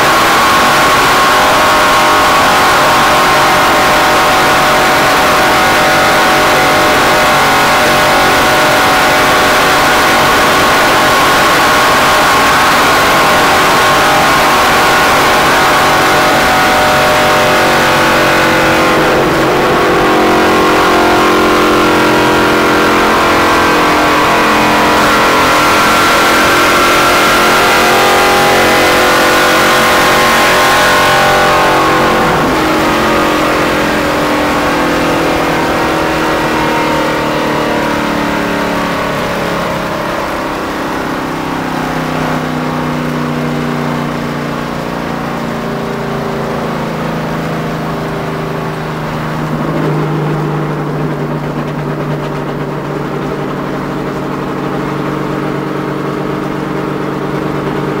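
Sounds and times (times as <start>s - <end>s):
racing car engine at speed: 0.0s - 58.0s
road and wind noise: 0.0s - 58.0s.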